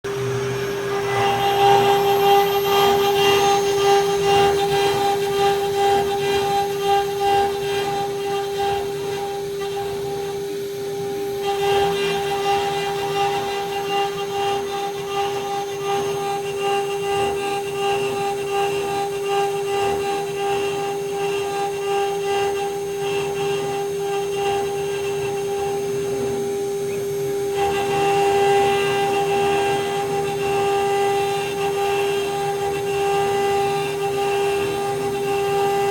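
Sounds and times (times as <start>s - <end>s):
milling machine spindle whine: 0.1s - 35.9s
rough metal cutting noise: 0.1s - 35.9s.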